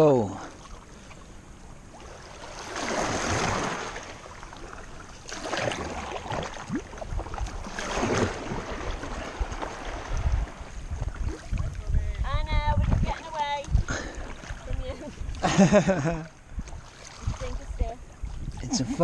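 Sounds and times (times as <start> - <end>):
kayak paddles splashing in water: 0.4 - 15.6, 16.4 - 18.7.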